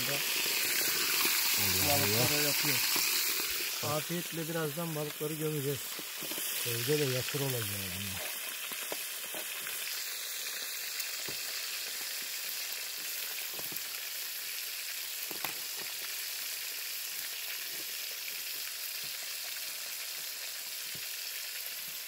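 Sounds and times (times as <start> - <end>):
fish sizzling in oil: 0.0 - 22.0
oil crackling and popping: 0.0 - 22.0.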